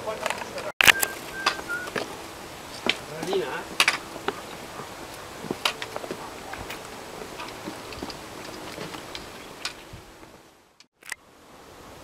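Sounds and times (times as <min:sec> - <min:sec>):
footsteps on gravel: 0:00.2 - 0:10.4.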